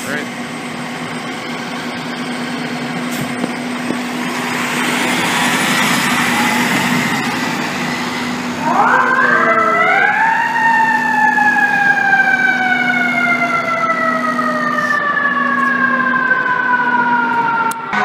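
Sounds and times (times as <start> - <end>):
fire engine siren winding down: 0.0 - 18.0.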